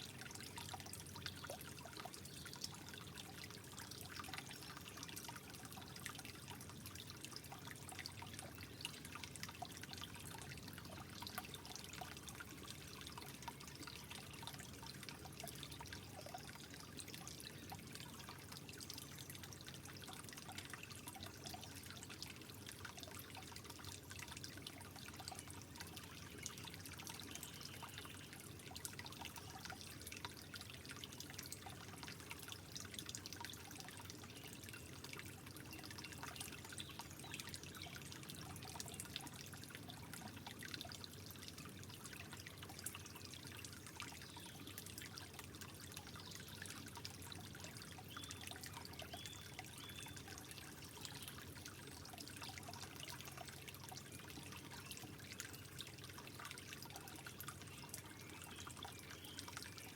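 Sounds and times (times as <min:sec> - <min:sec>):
water trickling with drips: 0:00.0 - 0:59.9.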